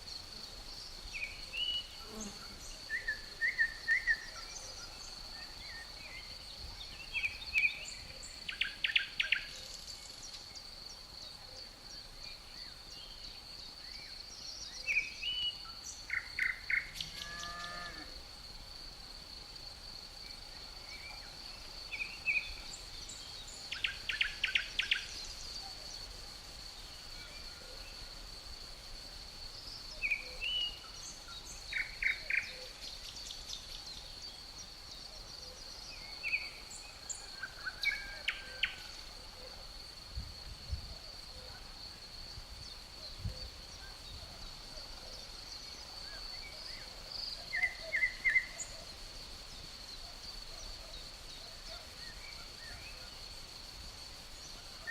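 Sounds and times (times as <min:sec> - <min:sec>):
crickets trilling: 0:00.0 - 0:54.9
songbirds chirping: 0:00.0 - 0:54.9.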